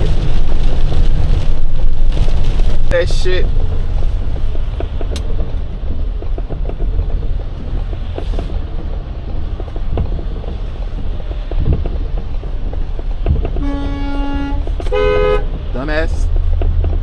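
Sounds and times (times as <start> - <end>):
cab creaks and rattles: 0.0 - 17.0
road and engine rumble: 0.0 - 17.0.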